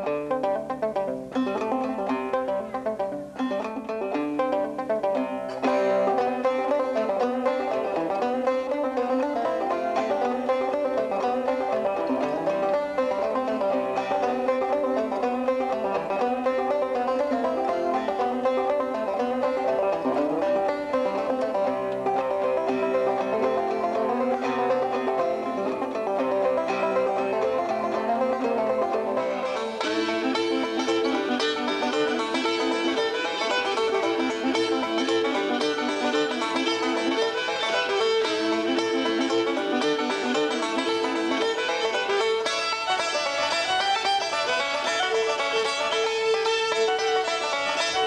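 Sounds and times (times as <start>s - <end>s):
bluegrass music with plucked banjo: 0.0s - 48.0s.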